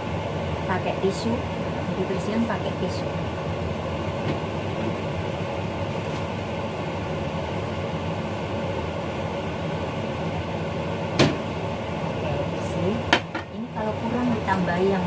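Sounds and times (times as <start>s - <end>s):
fan humming with rushing air: 0.0s - 15.0s.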